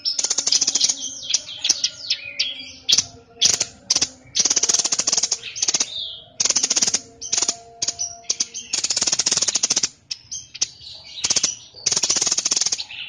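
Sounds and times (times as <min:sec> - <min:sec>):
songbird singing rattling trills: 0:00.0 - 0:13.0.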